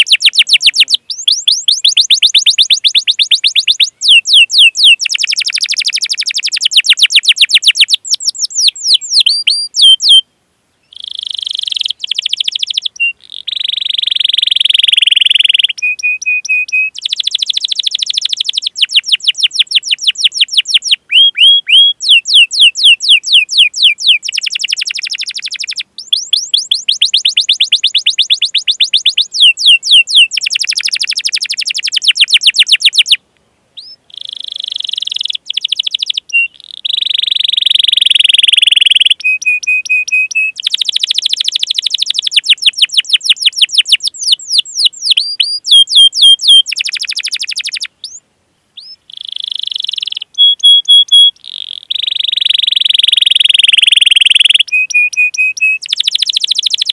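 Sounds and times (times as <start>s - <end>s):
canary singing: 0.0s - 33.2s, 33.8s - 48.2s, 48.8s - 56.9s.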